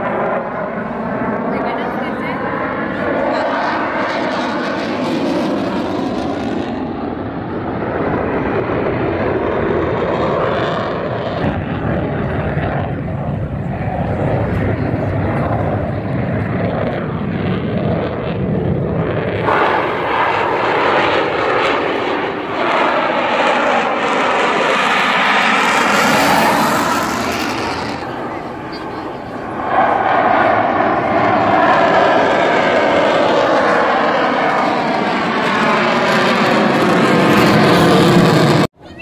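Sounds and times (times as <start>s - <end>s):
jet engine roar: 0.0s - 39.0s.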